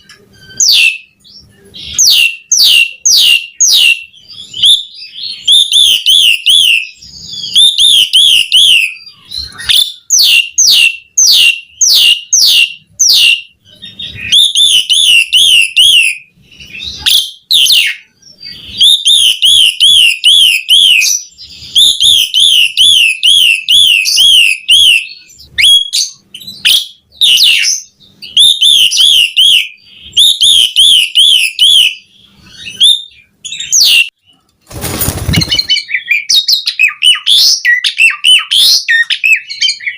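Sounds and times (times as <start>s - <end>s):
starling singing whistled phrases: 0.0s - 34.2s, 34.8s - 39.9s.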